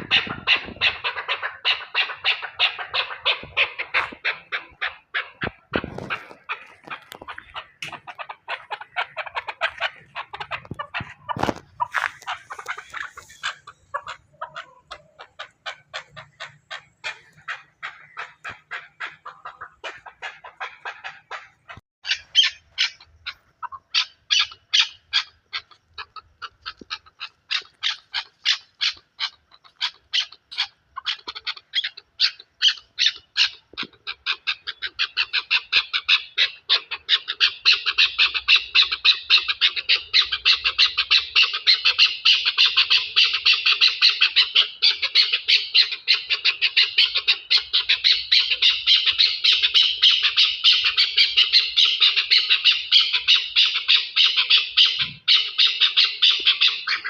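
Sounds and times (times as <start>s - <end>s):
partridges calling: 0.0s - 57.0s.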